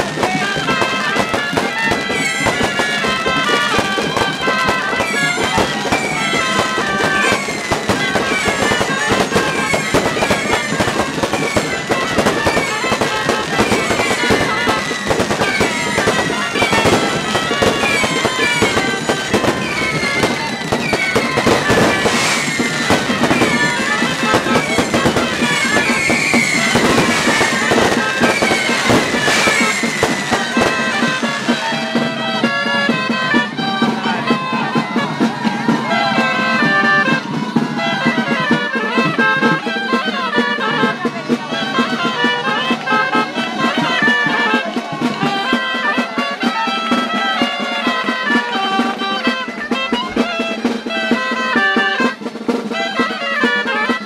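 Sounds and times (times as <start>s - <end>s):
drums keeping beat: 0.0s - 54.0s
firework whistle and crackle: 0.0s - 54.0s.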